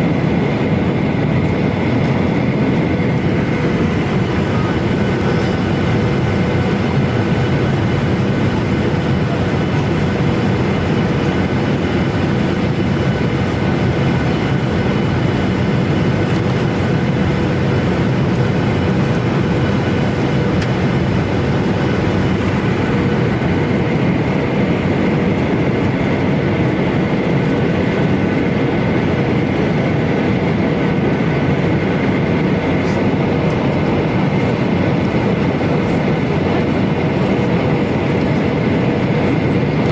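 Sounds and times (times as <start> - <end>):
constant hum tones: 0.0 - 39.9.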